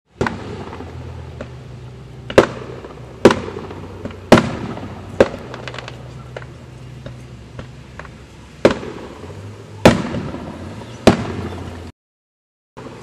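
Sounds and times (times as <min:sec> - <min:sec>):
fireworks booming: 0:00.1 - 0:11.9
crackling pops: 0:00.2 - 0:01.6, 0:02.2 - 0:11.6.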